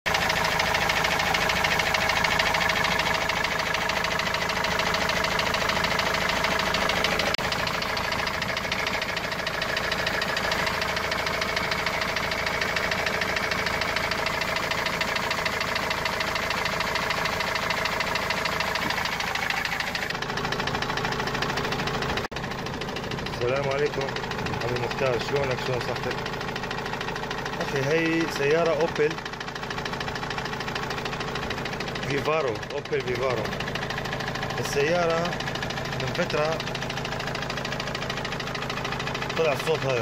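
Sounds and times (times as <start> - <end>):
diesel engine knocking: 0.0 - 40.0.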